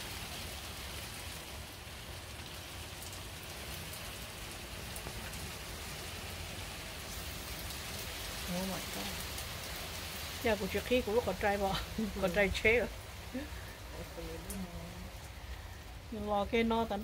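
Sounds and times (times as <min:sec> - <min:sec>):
rain drop ticks: 0:00.0 - 0:17.0
rain on path and shrubs: 0:00.0 - 0:17.0.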